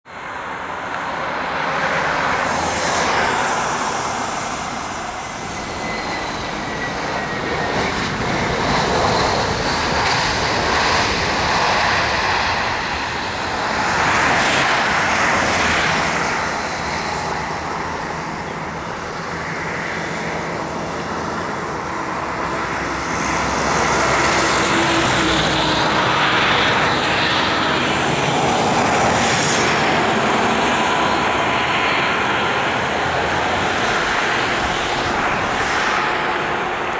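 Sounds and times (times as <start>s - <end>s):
jet engines rushing on landing: 0.0s - 36.9s.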